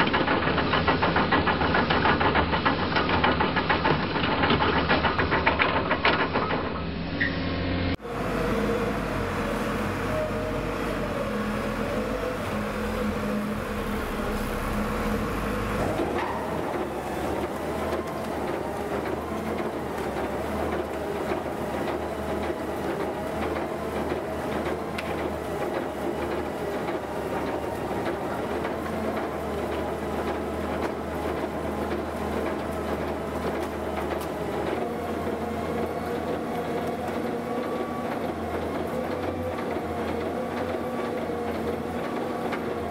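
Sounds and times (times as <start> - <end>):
diesel engine running: 6.8 - 42.9.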